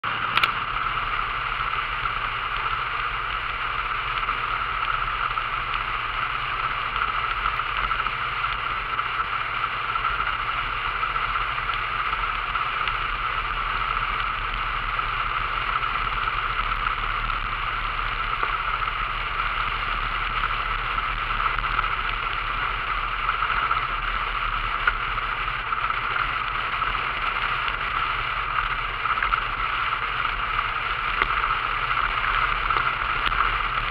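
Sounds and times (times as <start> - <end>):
low car engine hum: 0.0 - 33.9
wind and road noise: 0.0 - 33.9.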